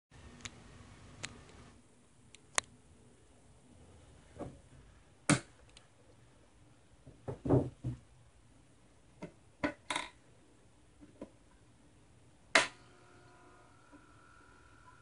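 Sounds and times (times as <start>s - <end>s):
faint steady hum: 0.2s - 15.0s.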